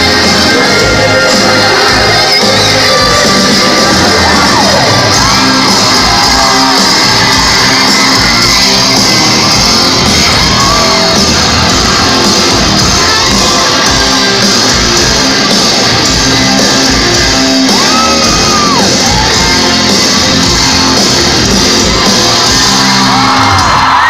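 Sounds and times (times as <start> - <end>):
crowd shouting along: 0.0 - 24.0
live rock band playing: 0.0 - 24.0.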